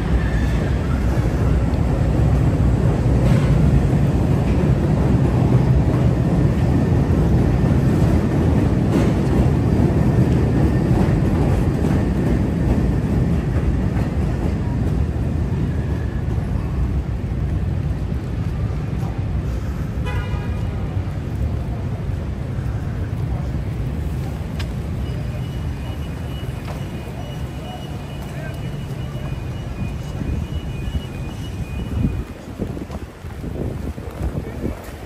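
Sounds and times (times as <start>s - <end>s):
elevated train rumble: 0.0s - 35.0s
street noise: 0.0s - 35.0s.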